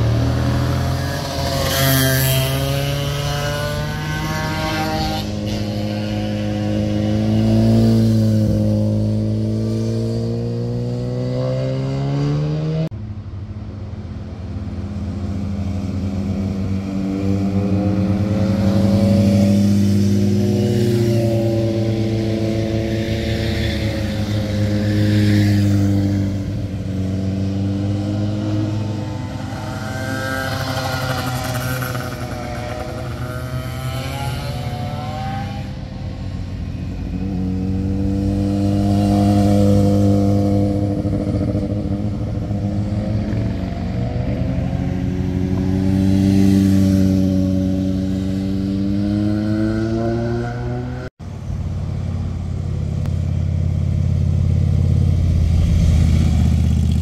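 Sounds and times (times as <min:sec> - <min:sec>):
motorcycle passing: 0:00.0 - 0:57.0
sport motorcycle engines: 0:00.0 - 0:57.0.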